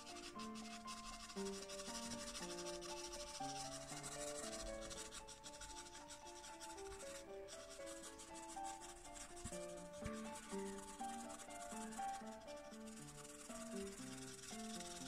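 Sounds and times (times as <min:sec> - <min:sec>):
pastel pencil scratching on card: 0:00.0 - 0:15.0
soft background music: 0:00.0 - 0:15.0.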